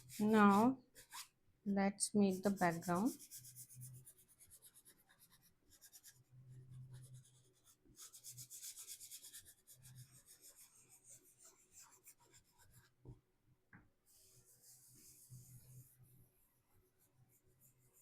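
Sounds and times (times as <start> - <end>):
pastel scratching on paper: 0.0 - 1.3, 2.3 - 13.0, 14.1 - 18.0.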